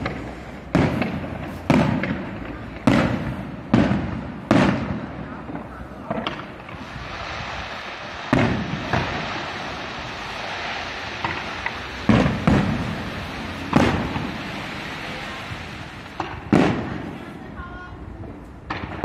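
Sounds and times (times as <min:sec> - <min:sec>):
fireworks booms: 0:00.0 - 0:19.0
fireworks crackling: 0:00.0 - 0:19.0.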